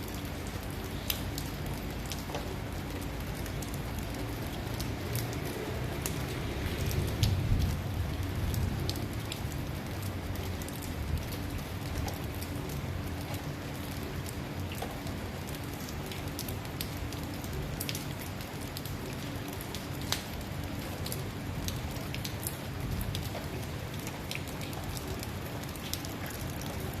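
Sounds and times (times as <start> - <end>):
rain falling on road: 0.0 - 27.0.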